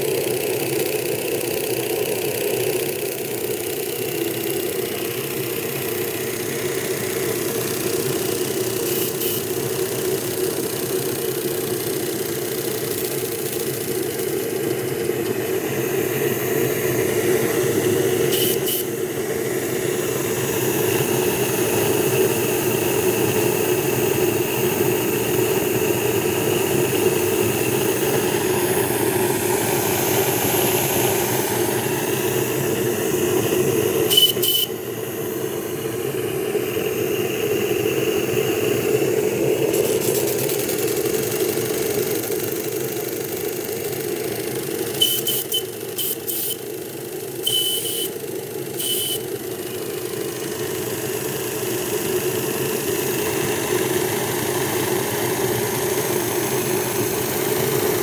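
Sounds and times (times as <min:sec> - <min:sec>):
steam engine running: 0:00.0 - 0:58.0.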